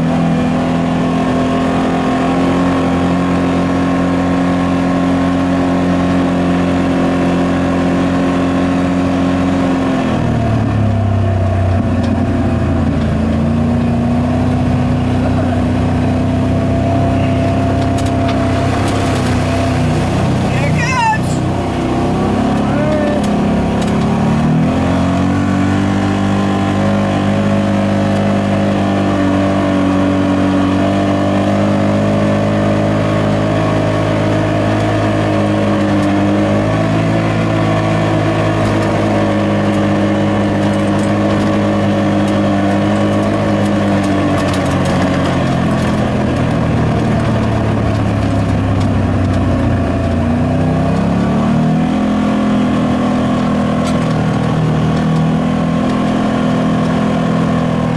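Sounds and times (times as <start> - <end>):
utility vehicle engine running: 0.0 - 57.9.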